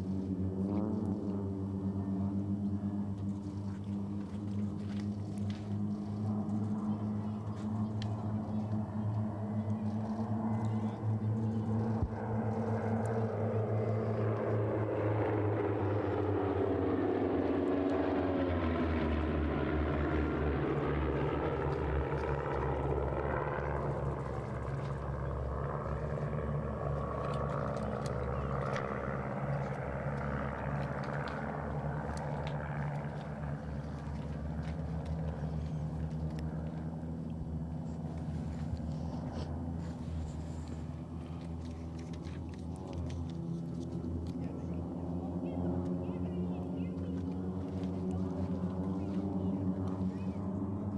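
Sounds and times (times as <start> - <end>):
propeller airplanes droning past: 0.0 - 50.9.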